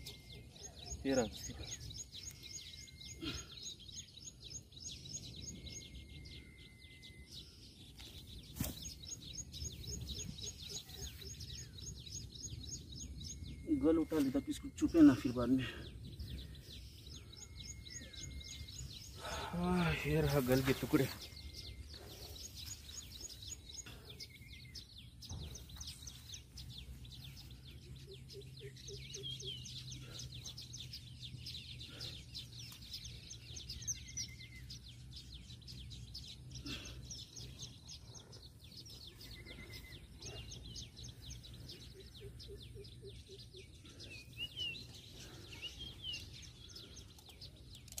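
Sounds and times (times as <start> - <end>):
wild birds chirping: 0.0 - 48.0.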